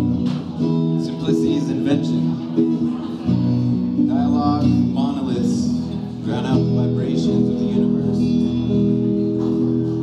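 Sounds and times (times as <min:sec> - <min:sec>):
electric guitar through amplifier: 0:00.0 - 0:10.0.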